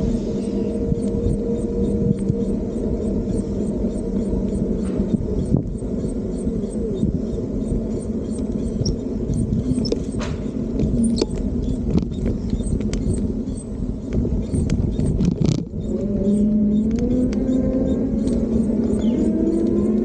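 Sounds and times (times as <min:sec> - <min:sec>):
road rumble: 0:00.0 - 0:20.0
wind buffeting microphone: 0:00.0 - 0:20.0
sharp clicks and rattles: 0:00.7 - 0:20.0.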